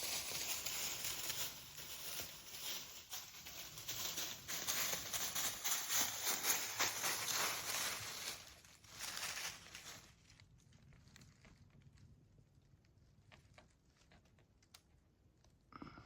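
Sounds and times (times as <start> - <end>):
crunching and rustling: 0.0 - 15.7.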